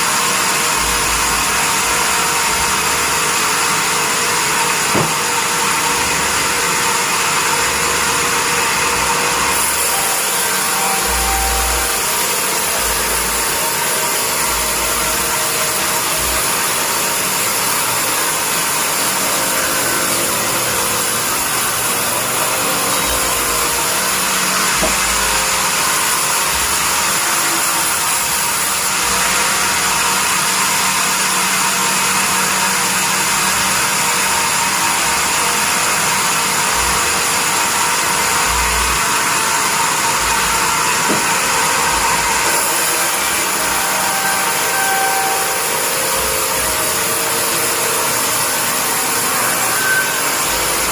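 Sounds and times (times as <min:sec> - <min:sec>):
bandsaw machine running: 0:00.0 - 0:50.9.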